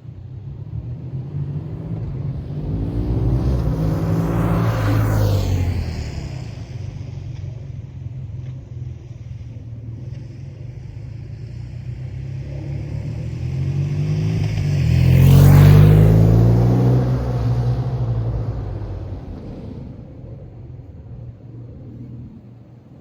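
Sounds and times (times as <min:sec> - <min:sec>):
motorcycle engine passing by: 0:00.2 - 0:23.0.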